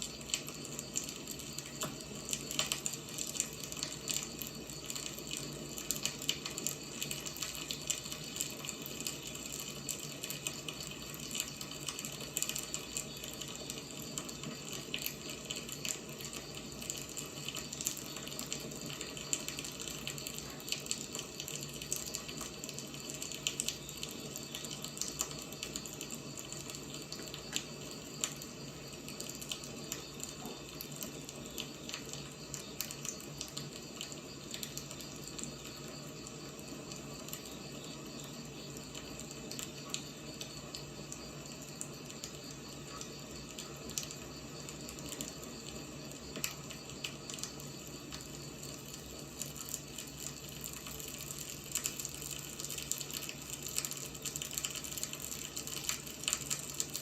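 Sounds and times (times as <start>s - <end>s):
firewood crackling and popping: 0.0s - 57.0s
wood fire hissing: 0.0s - 57.0s.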